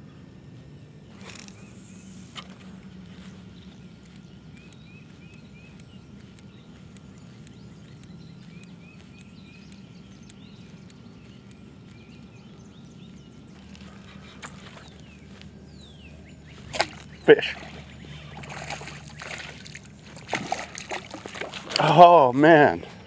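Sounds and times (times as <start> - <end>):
faint low hum: 0.0 - 23.0
songbirds chirping: 0.0 - 23.0.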